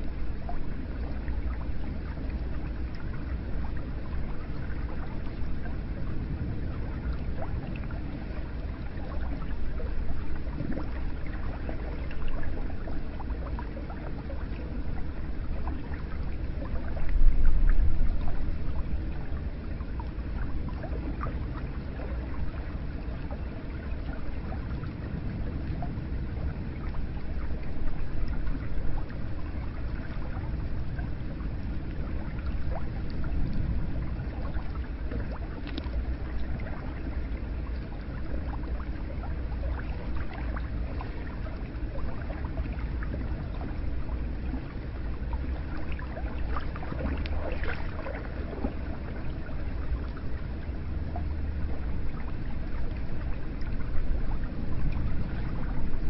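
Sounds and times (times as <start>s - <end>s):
small water drips: 0.0s - 56.0s.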